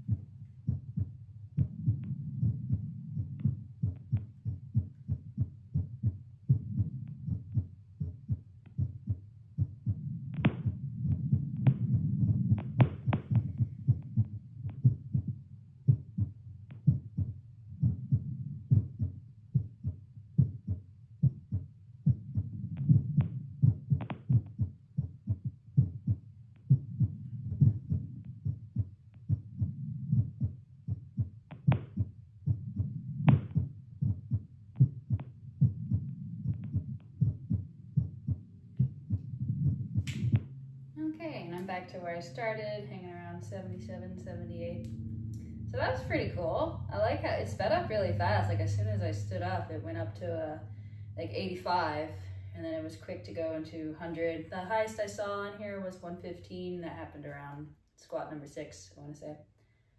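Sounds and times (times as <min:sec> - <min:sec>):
heartbeat thuds: 0:00.0 - 0:52.4.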